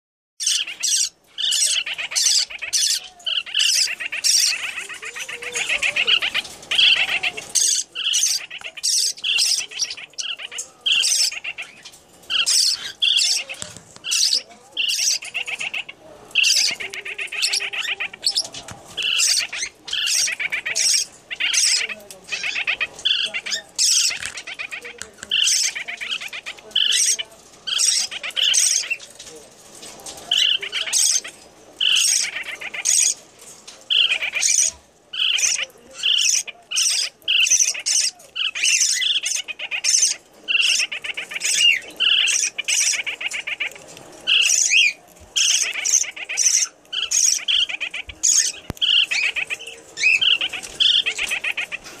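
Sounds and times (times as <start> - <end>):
parakeet buzzy chirping calls: 0.4 - 18.4, 19.0 - 29.0, 33.9 - 52.0.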